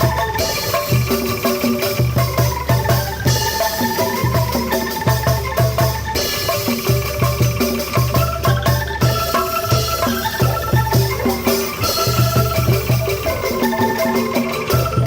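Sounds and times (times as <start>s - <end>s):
bamboo tubes rattling tuned notes: 0.0s - 15.0s.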